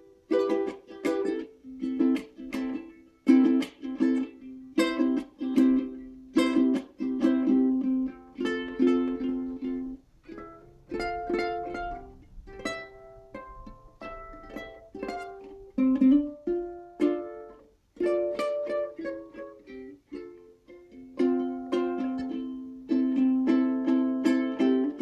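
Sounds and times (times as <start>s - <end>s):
ukulele plucked chords and notes: 0.0s - 25.0s.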